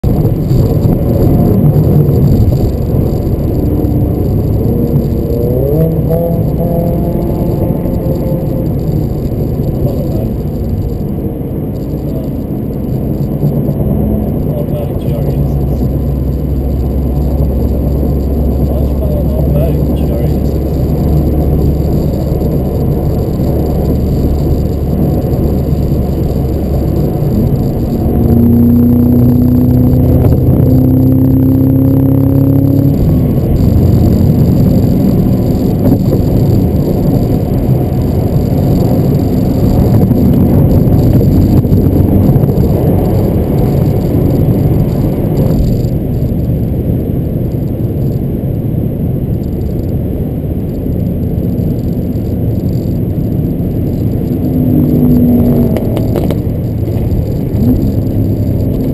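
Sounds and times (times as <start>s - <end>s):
car engine accelerating: 0.0s - 58.9s
road and wind noise: 0.0s - 58.9s.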